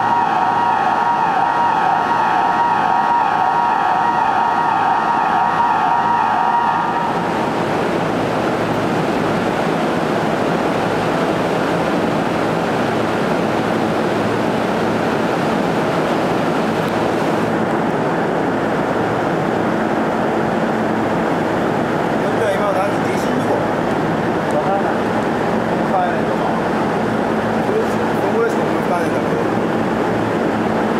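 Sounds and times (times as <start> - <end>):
steady rushing noise: 0.0 - 30.9.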